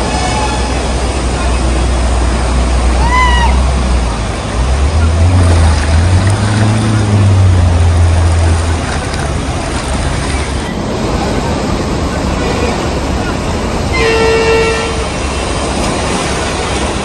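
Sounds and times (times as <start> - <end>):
rushing water and road noise: 0.0 - 17.0
vehicle engine humming: 0.0 - 17.0.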